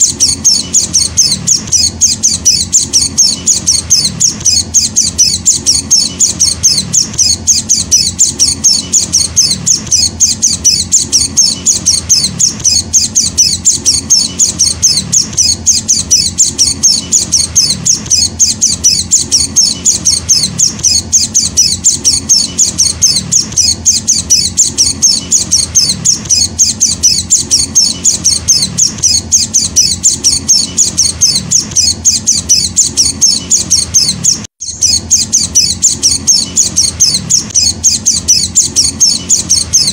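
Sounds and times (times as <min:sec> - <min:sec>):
bird high thin chirps: 0:00.0 - 0:39.9.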